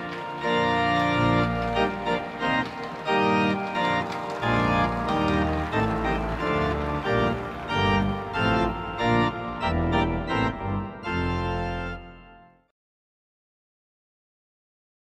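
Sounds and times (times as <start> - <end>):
held keyboard chords: 0.0 - 12.7.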